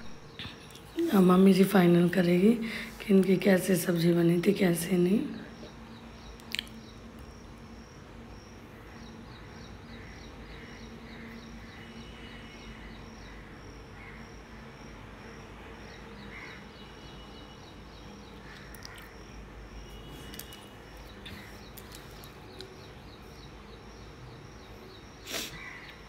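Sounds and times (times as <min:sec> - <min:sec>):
cricket chirping: 0:00.0 - 0:26.0
faint low hum: 0:00.0 - 0:26.0.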